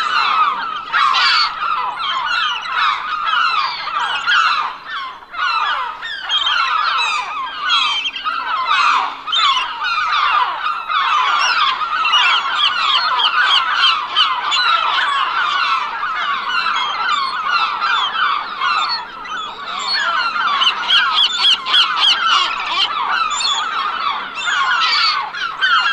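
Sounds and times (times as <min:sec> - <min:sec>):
gulls squawking: 0:00.0 - 0:25.9.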